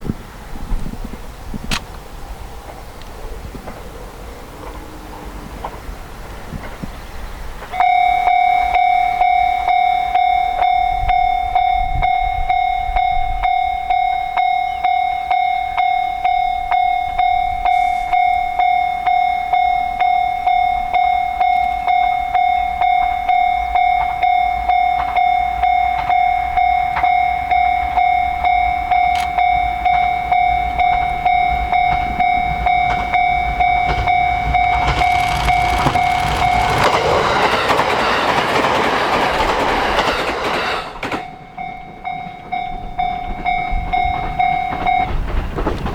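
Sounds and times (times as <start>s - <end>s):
approaching train: 0.0s - 45.9s.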